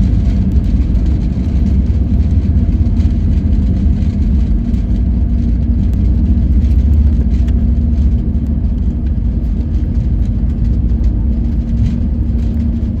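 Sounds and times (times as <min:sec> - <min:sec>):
airliner low rumble: 0:00.0 - 0:13.0.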